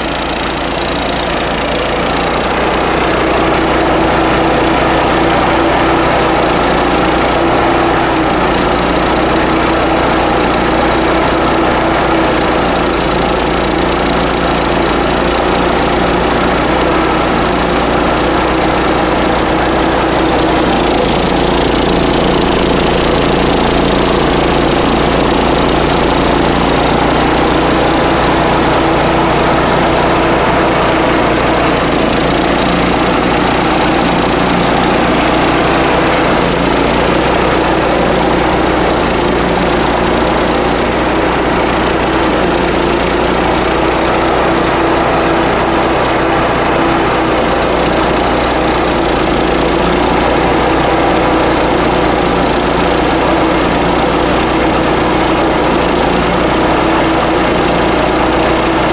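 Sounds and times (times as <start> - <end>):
thresher engine running: 0.0 - 58.9.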